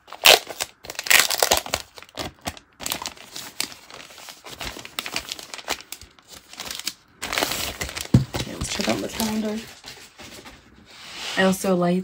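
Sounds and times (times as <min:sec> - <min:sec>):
plastic sleeve crinkling: 0:00.0 - 0:10.7.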